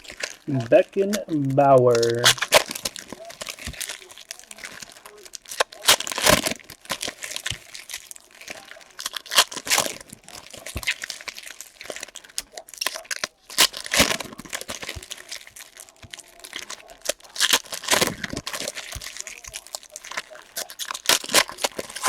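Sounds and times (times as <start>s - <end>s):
card pack wrappers crinkling: 0.0s - 22.0s.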